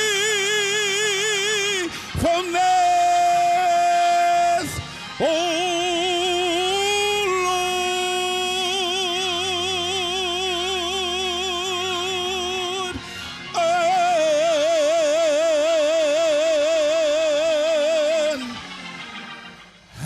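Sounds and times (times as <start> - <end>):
person singing long notes with vibrato: 0.0 - 18.8.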